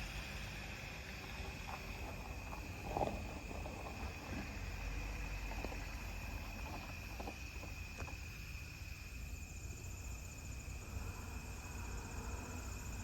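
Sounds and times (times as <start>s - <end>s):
crickets trilling: 0.0s - 13.0s
fast-pulsing insect sound: 0.0s - 13.0s.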